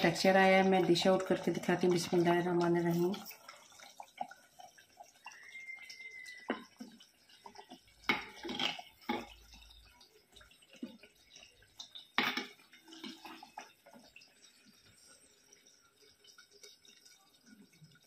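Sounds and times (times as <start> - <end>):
thick liquid pouring and dripping: 0.0 - 18.0.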